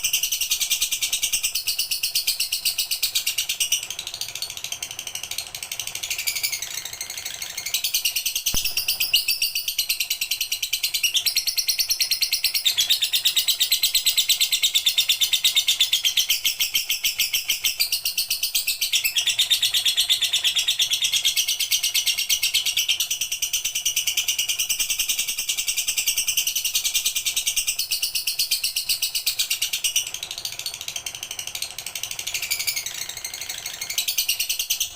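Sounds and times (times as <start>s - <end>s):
bird singing high-pitched trill: 0.0s - 30.8s, 31.6s - 34.9s.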